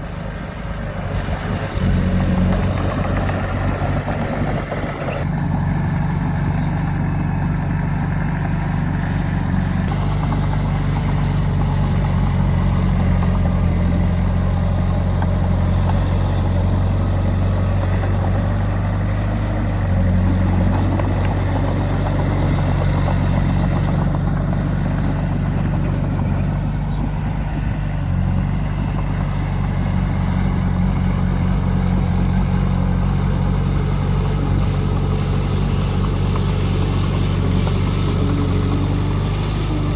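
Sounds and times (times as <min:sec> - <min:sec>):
diesel engine of earthmover running: 0:00.0 - 0:39.9.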